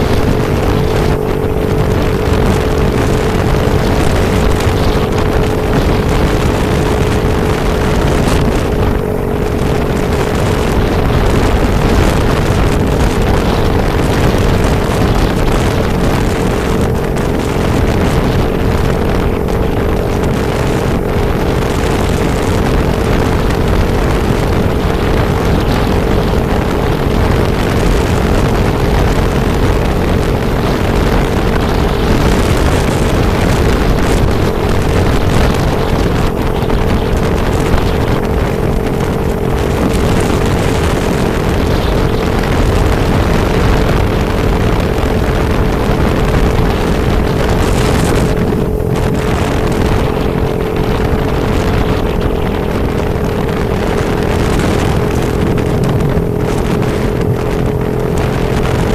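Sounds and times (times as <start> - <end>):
vehicle engine tone: 0.0 - 58.9
wind noise on microphone: 0.0 - 58.9.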